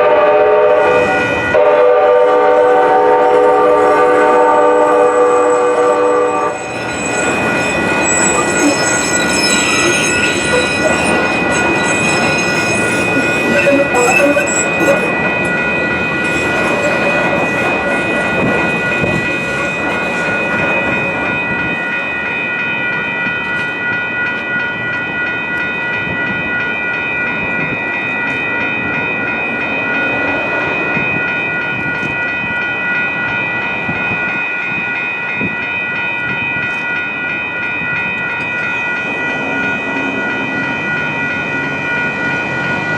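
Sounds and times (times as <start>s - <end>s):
train rumbling: 0.0s - 42.9s
high-pitched crossing bells ringing: 3.7s - 42.9s.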